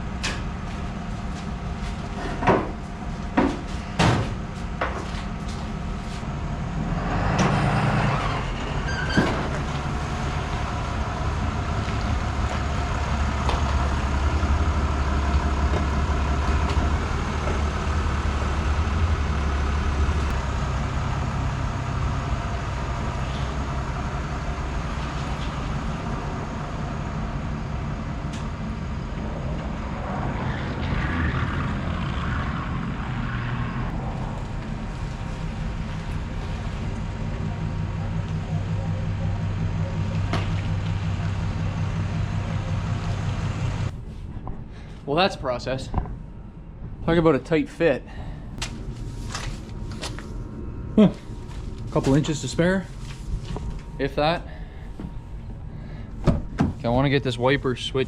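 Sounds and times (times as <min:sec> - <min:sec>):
vehicle engine running: 0:00.0 - 0:47.5, 0:48.3 - 0:58.0.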